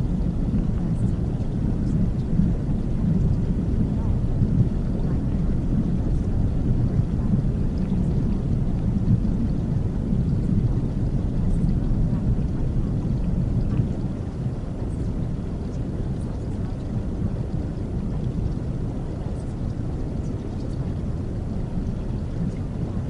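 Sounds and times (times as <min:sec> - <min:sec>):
deep rushing white noise: 0:00.0 - 0:23.0
faint crackles: 0:00.0 - 0:23.0.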